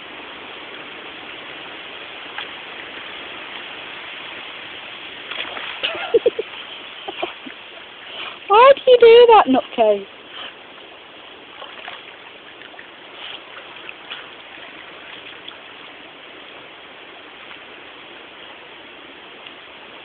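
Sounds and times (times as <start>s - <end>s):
stream water rushing: 0.0s - 20.0s
light water splashes: 0.2s - 19.8s.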